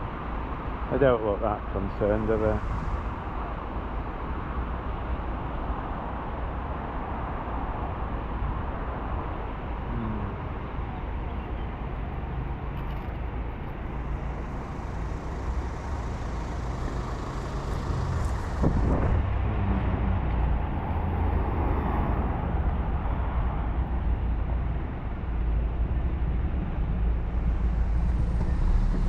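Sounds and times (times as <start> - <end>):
motor vehicle rumble: 0.0 - 6.5, 7.4 - 29.0
faint engine hum: 0.9 - 6.8, 7.4 - 29.0.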